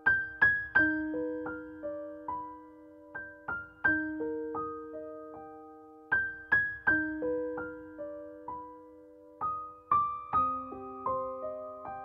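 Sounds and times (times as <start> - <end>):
slow gentle piano melody: 0.0 - 12.0.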